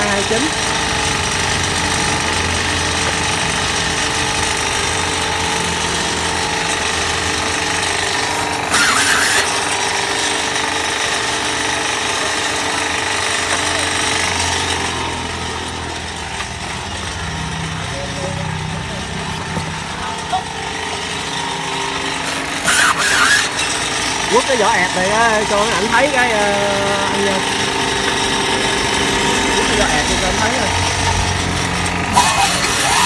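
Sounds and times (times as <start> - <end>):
tyre-cutting machine running: 0.0 - 33.0.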